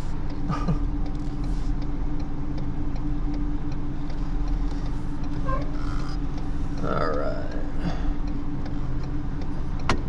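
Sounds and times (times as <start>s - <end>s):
diesel truck engine running: 0.0s - 10.0s
faint regular ticking: 0.0s - 10.0s.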